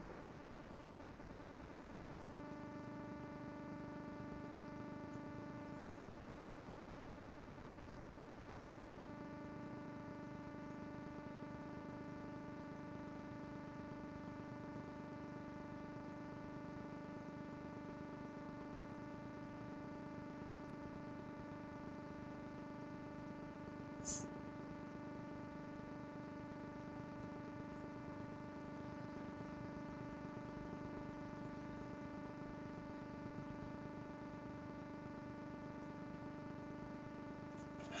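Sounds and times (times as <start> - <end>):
steady electrical hum: 0.0 - 38.0.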